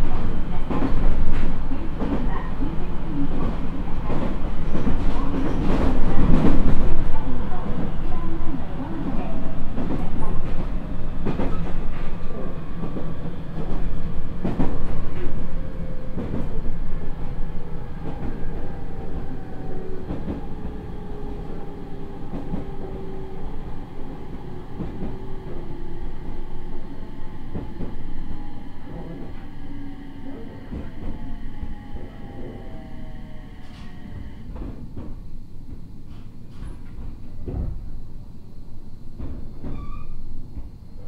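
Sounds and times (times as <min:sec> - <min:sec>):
low train rumble: 0:00.0 - 0:41.0.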